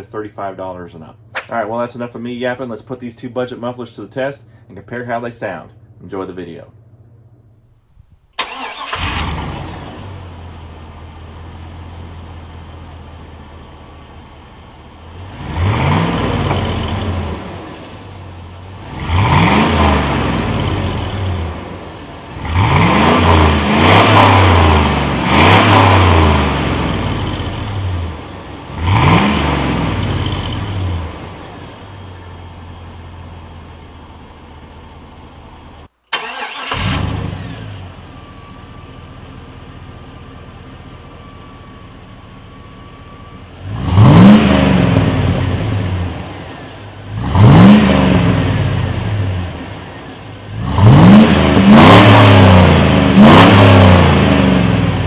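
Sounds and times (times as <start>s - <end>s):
car engine starting: 7.8s - 55.0s
engine idling and revving: 8.4s - 55.0s.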